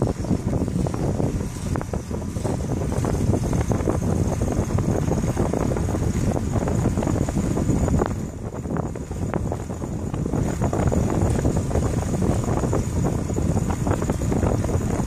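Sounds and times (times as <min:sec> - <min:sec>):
bicycle tyre noise: 0:00.0 - 0:15.0
wind on microphone: 0:00.0 - 0:15.0.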